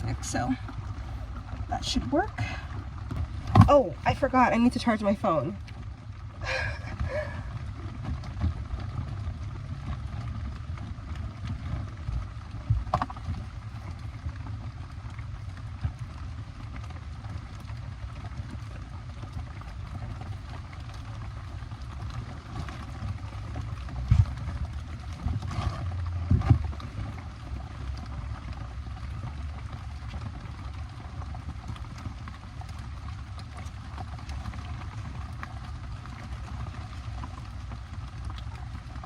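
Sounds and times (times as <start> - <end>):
low rumble: 0.0 - 39.0
rain on plastic tarps: 0.0 - 39.0.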